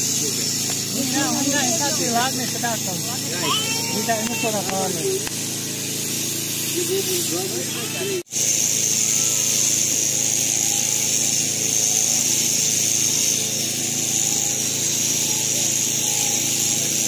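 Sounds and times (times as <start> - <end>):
electric shears whining: 0.0 - 17.0.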